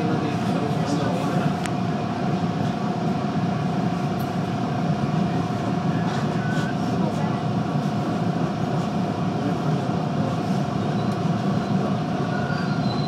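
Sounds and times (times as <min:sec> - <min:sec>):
high train whine: 0:00.0 - 0:13.0.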